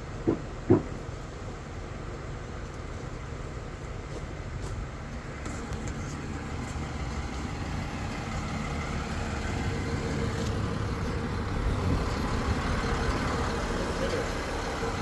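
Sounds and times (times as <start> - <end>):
crane engine rumbling: 0.0 - 15.0.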